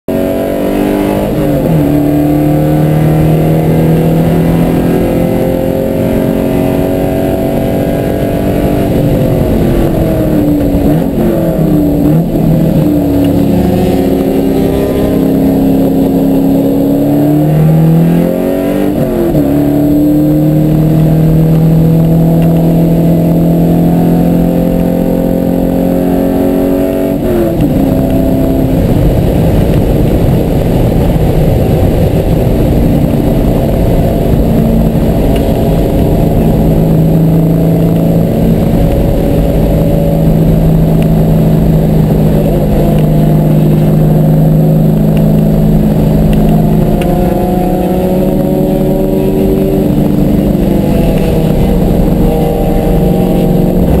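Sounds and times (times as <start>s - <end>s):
car engine revving hard: 0.1s - 54.0s
quick downshifts: 0.1s - 54.0s.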